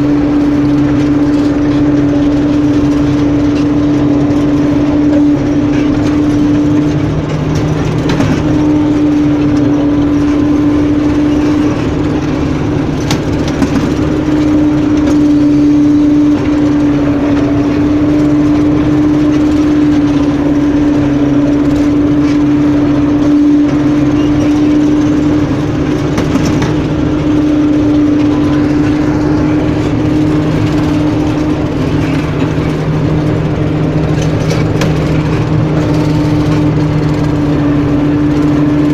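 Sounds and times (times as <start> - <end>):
harvest machinery engine drone: 0.0 - 38.9.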